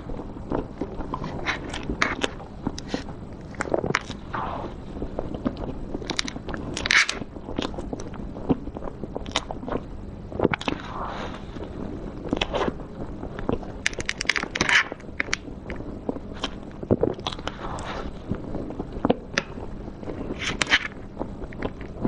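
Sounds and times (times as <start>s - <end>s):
person chewing cake: 0.0s - 4.3s, 5.0s - 22.0s.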